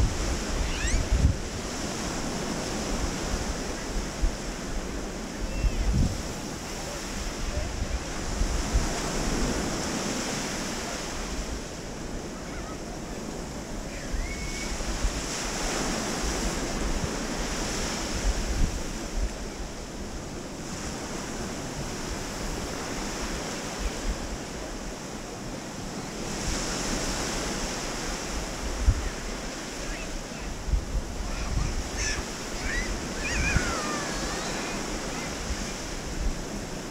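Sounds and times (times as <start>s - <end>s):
wind buffeting microphone: 0.0s - 24.7s, 25.8s - 36.9s
small waves washing onto sand: 0.0s - 36.9s.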